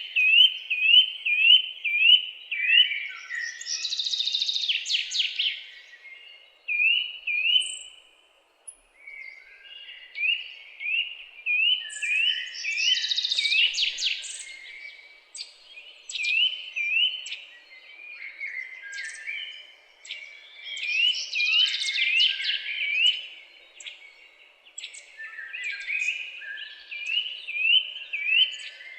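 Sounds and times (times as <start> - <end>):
songbirds chirping and singing: 0.0 - 28.9.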